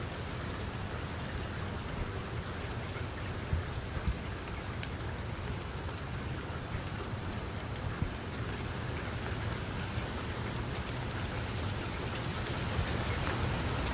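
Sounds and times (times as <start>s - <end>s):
rain pattering: 0.0s - 13.9s.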